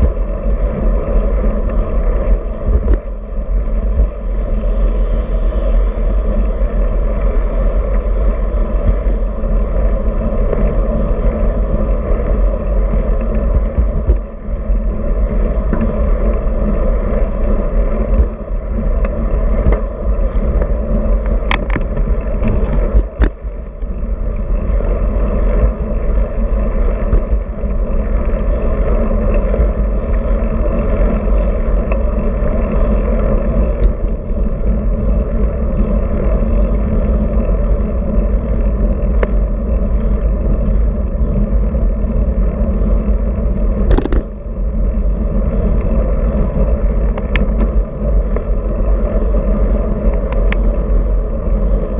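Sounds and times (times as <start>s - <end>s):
wind rush: 0.0s - 51.9s.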